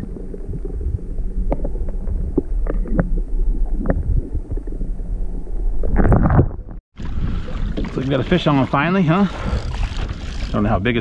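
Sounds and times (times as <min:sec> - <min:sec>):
water around kayak: 0:00.0 - 0:11.0
wind rumbling on microphone: 0:00.0 - 0:11.0.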